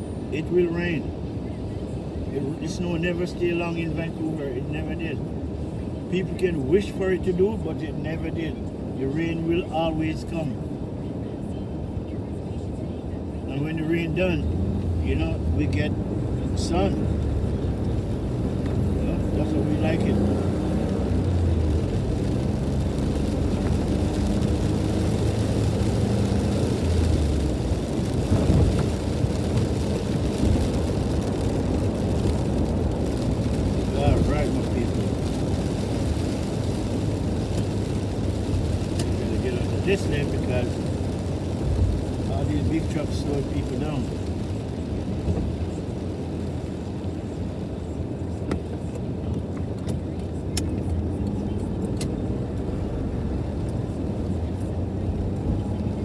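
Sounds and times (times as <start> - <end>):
car driving on wet road: 0.0 - 56.0.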